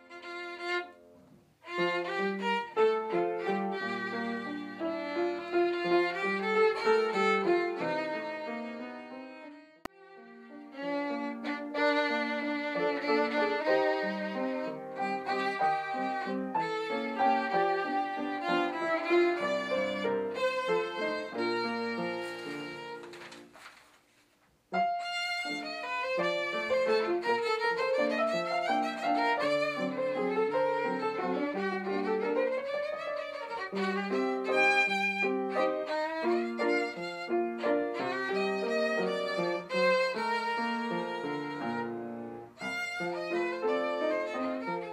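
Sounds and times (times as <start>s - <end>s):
background music led by violin: 0.0s - 23.5s, 24.8s - 44.9s.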